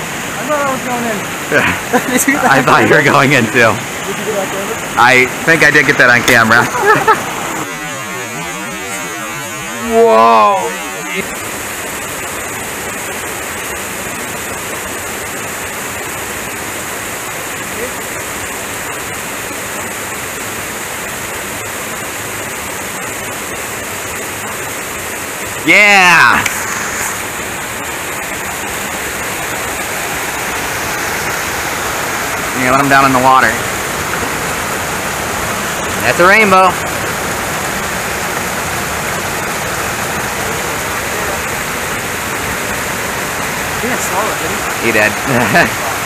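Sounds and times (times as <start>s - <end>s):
water rushing over dam: 0.0s - 46.0s.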